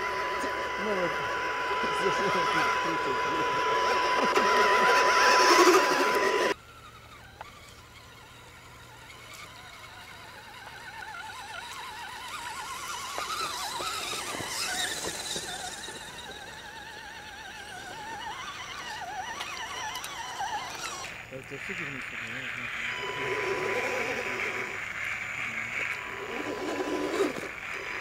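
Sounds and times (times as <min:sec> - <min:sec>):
toy truck electric motors whining: 0:00.0 - 0:28.0.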